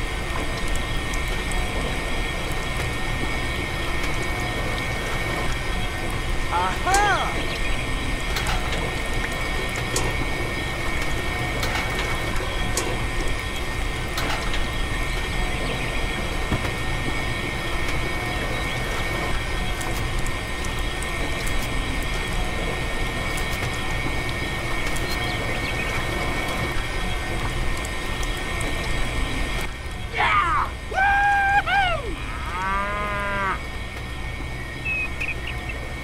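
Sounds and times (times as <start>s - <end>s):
machine whine and hiss: 0.0s - 36.0s.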